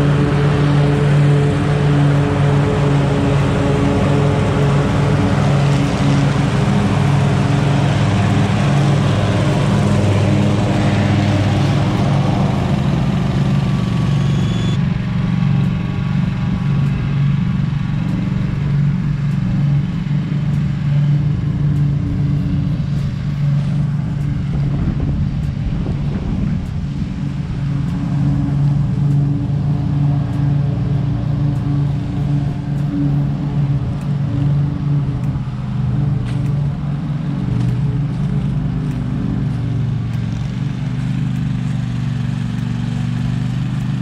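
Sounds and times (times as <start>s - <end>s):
leaf blower airy rush: 0.0s - 44.0s
mower engine drone: 0.0s - 44.0s.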